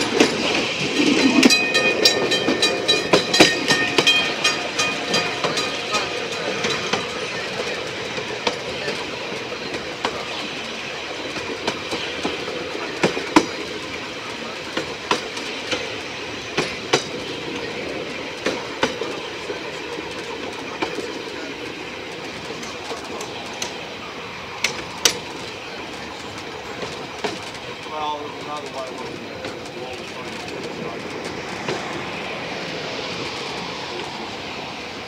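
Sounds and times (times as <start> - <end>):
wheels clicking over rail joints: 0.0 - 34.2
train wheels rumbling: 0.0 - 35.0.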